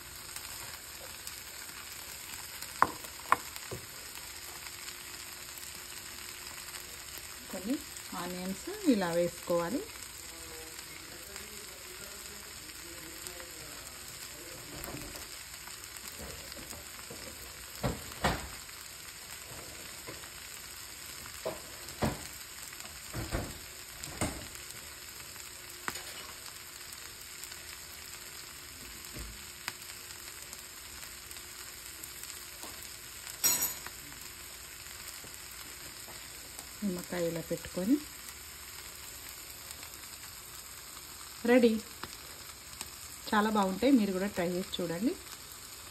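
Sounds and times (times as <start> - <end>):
peas sizzling in oil: 0.0 - 45.9.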